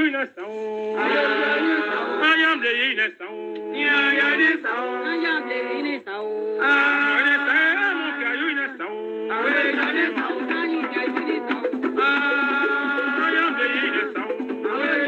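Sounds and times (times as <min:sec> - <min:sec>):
men's choir singing: 0:00.5 - 0:02.5, 0:03.3 - 0:06.0, 0:06.6 - 0:15.0.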